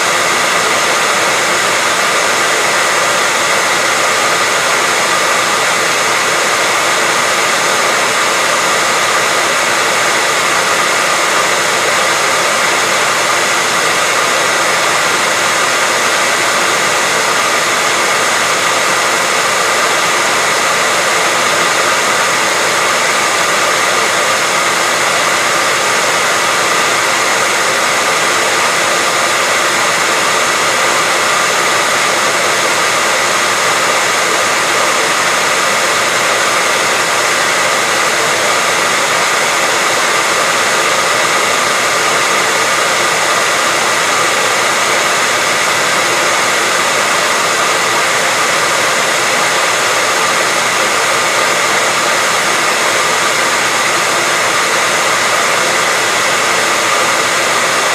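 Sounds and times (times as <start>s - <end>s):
hair dryer blowing: 0.0s - 57.9s.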